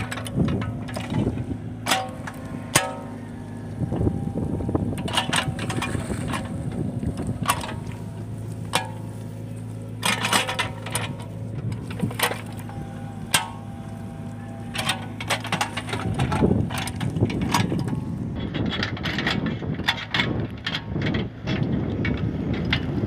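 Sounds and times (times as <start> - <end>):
metallic clanks and knocks: 0.0 - 3.2, 4.9 - 8.0, 8.6 - 9.3, 10.0 - 13.8, 14.7 - 23.0
excavator diesel engine running: 0.0 - 23.0.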